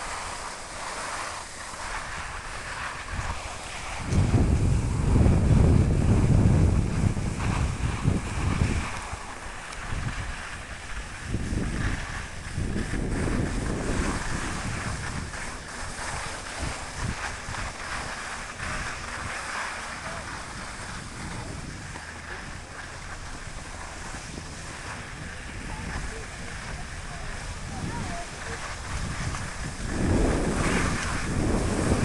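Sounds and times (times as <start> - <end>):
skis hissing over snow: 0.0 - 32.0
wind buffeting microphone: 0.0 - 32.0.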